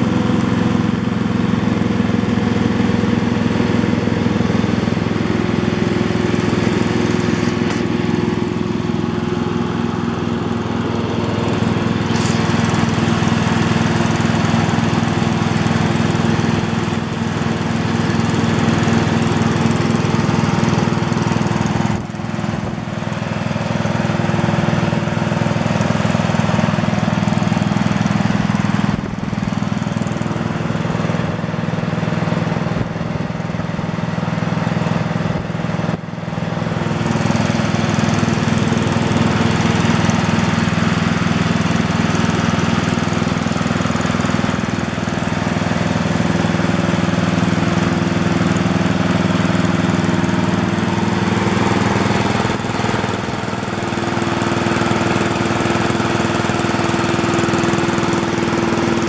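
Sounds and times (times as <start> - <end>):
lawn tractor engine running: 0.0 - 59.0.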